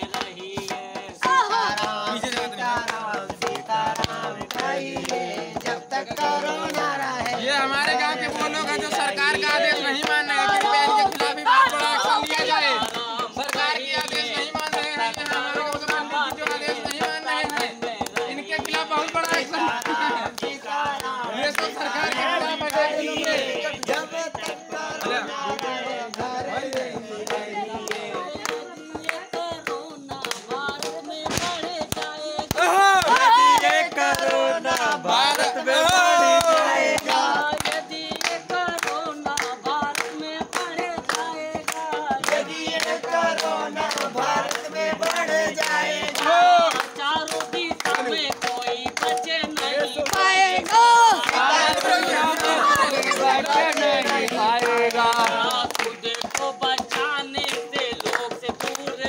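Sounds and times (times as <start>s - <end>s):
barrel drum beating: 0.0s - 59.0s
group singing a devotional chant: 0.0s - 59.0s
hands clapping: 0.0s - 59.0s.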